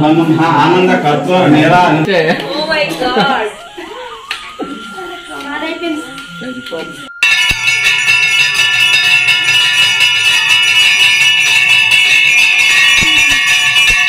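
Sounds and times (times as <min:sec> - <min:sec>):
metal bell ringing continuously: 0:02.6 - 0:14.0.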